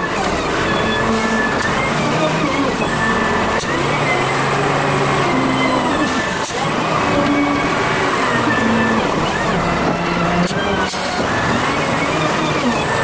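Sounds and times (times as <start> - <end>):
wheel loader diesel engine: 0.0 - 13.0.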